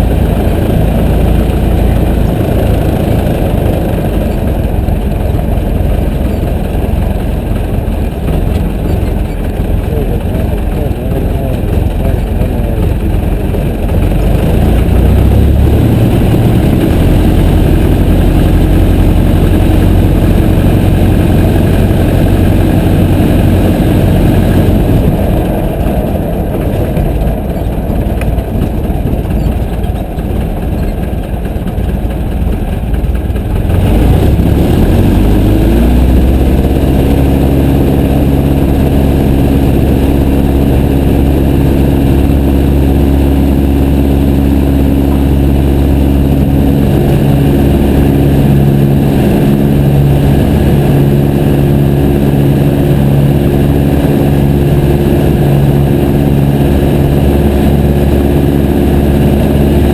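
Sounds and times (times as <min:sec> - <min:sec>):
piston engine running: 0:00.0 - 0:59.9.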